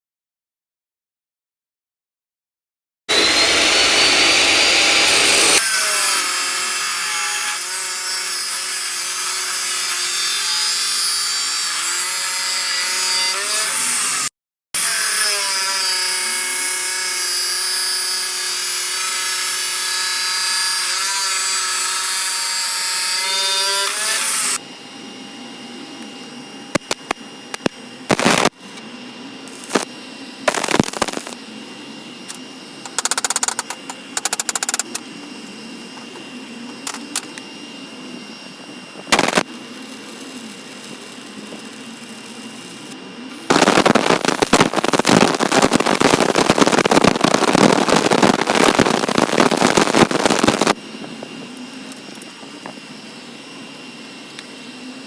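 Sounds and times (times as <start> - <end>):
belt grinder whine and rasp: 3.1 - 25.1, 26.2 - 28.6, 29.4 - 55.0.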